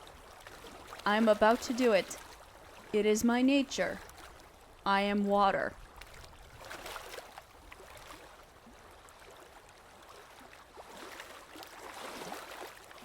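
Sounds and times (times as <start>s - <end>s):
water flowing and bubbling: 0.0s - 13.0s.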